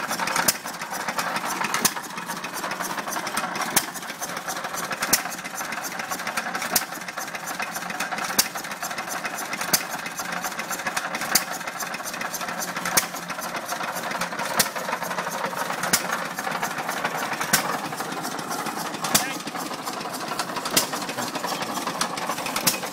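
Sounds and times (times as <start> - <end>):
mechanical clatter of flywheels: 0.0 - 22.9.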